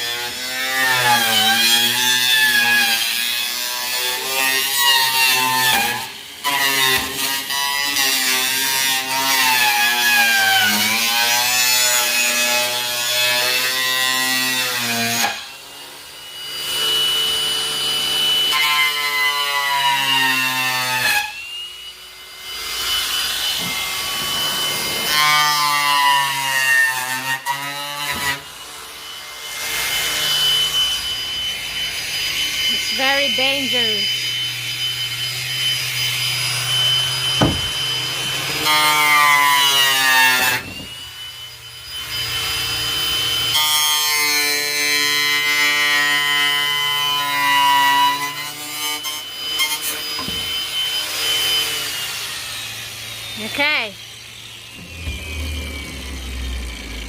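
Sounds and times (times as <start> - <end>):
angle grinder cutting plastic: 0.0 - 57.0.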